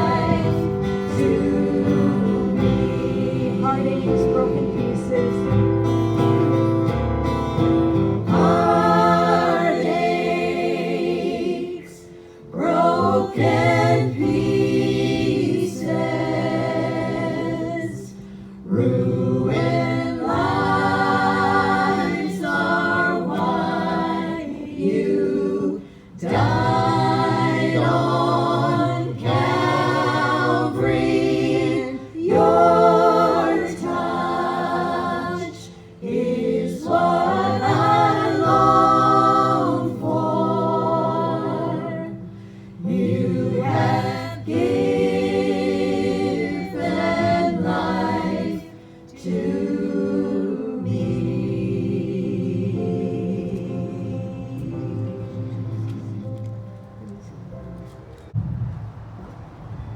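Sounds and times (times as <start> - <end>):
voices singing a hymn: 0.0 - 57.5.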